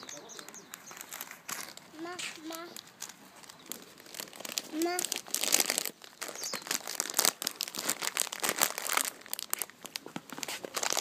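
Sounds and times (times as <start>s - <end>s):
crinkly crackling and rustling: 0.0s - 11.0s.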